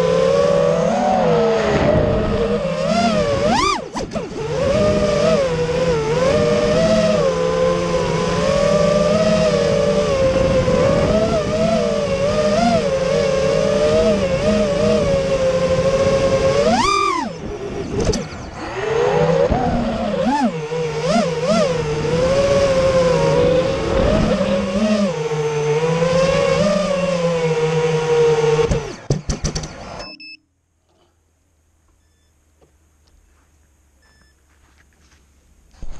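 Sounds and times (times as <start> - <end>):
quadcopter motors whining: 0.0 - 30.1.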